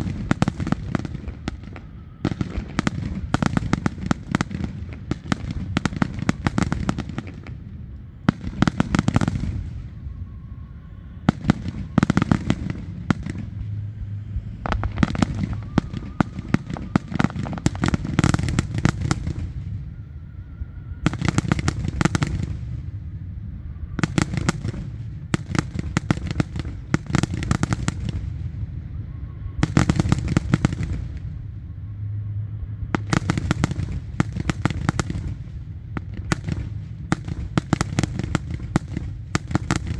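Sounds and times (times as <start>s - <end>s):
fireworks cracking and banging: 0.0s - 9.9s, 11.3s - 19.8s, 21.0s - 23.0s, 24.0s - 28.6s, 29.6s - 31.4s, 33.0s - 39.9s
low rumble: 0.0s - 39.9s.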